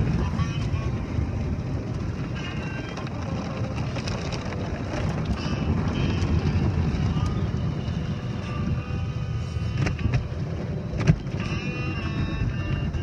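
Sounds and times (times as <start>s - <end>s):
car wash machinery rumble: 0.0s - 13.0s.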